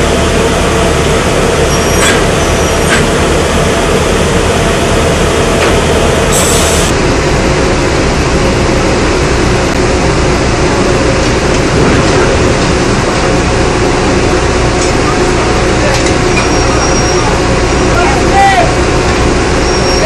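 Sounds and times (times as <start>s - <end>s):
drilling machinery drone: 0.0s - 20.0s.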